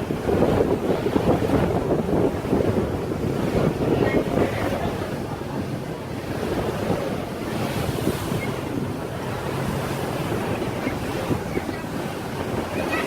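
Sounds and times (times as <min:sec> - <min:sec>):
water rushing: 0:00.0 - 0:13.0
wind buffeting microphone: 0:00.0 - 0:13.0.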